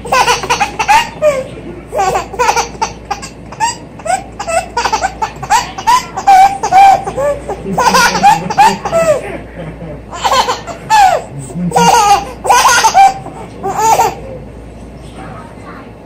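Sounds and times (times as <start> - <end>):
baby giggling: 0.0 - 14.4.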